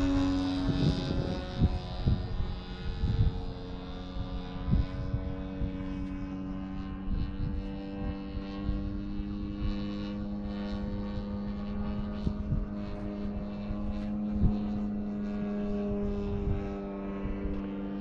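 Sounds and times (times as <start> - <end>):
model aircraft engine buzzing: 0.0 - 18.0.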